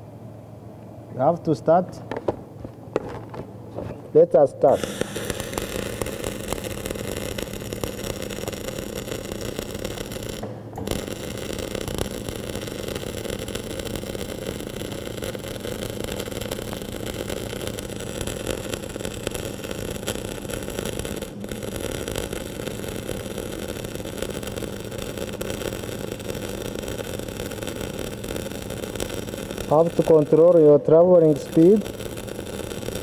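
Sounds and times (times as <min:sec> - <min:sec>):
crackling welding arc: 0:04.3 - 0:33.0
low hum: 0:04.7 - 0:33.0.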